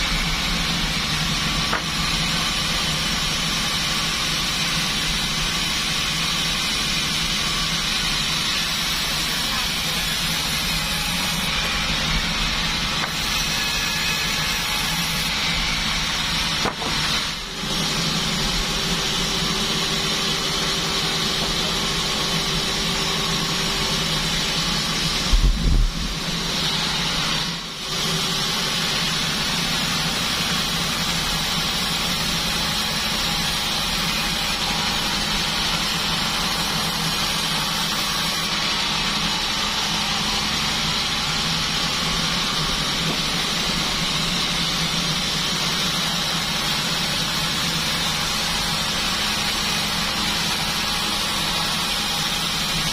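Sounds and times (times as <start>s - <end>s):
bandsaw running: 0.0s - 52.9s.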